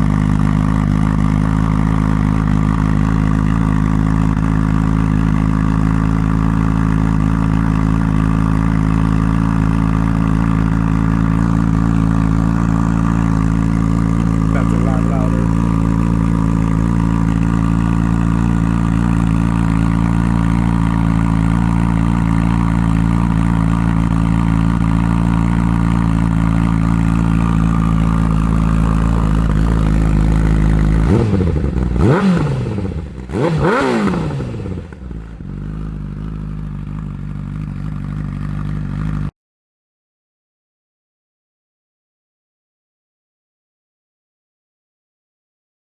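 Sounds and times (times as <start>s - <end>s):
motorcycle engine idling and revving: 0.0s - 39.3s.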